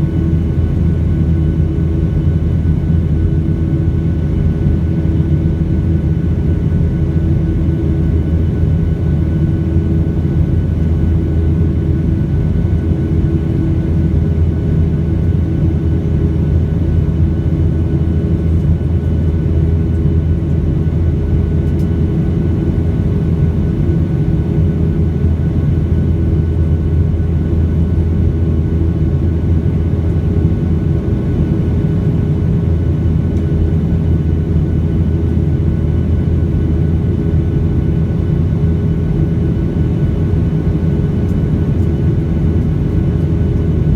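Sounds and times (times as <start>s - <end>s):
aircraft cabin engine drone: 0.0s - 43.9s.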